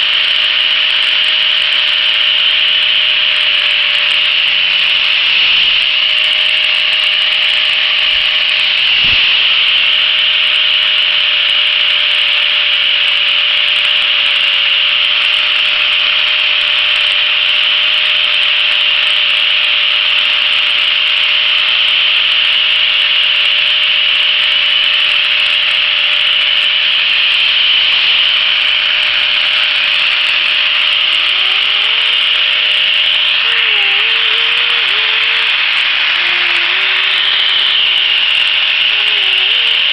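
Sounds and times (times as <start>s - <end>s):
angle grinder motor whine: 0.0s - 39.9s
sanding disc hissing on wood: 0.0s - 39.9s.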